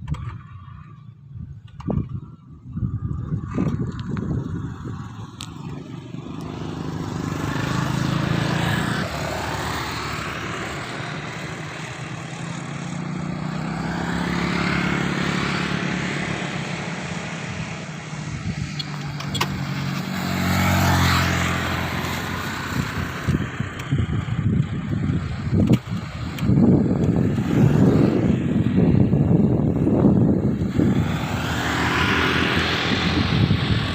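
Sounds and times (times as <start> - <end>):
vehicles passing by: 0.0 - 33.9.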